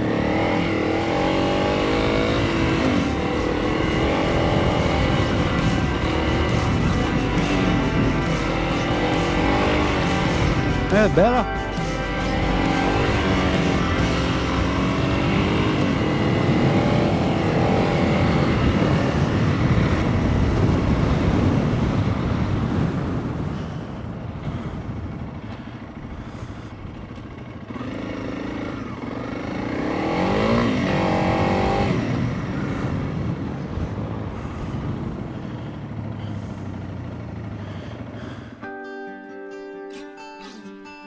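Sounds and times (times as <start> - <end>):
motorcycle engine revving: 0.0 - 38.8.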